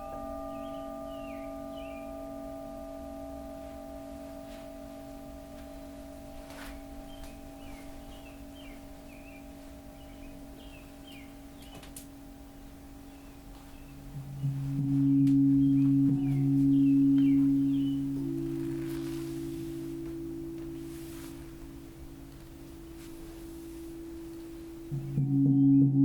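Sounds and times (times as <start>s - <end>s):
singing bowl ringing: 0.0s - 26.0s.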